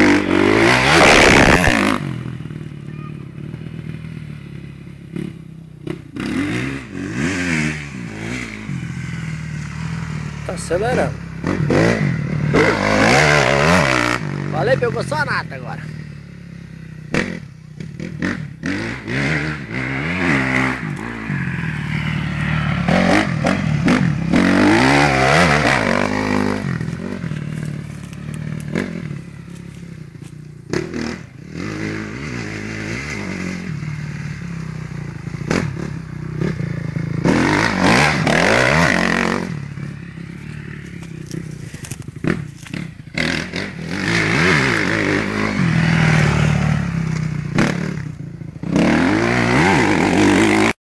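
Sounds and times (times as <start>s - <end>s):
motorcycle engine revving: 0.0s - 50.8s.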